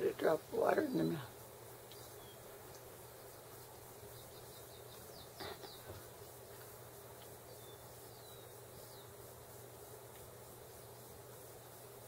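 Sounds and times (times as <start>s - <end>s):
birds chirping: 0.0s - 11.7s
steady hiss: 0.0s - 12.0s.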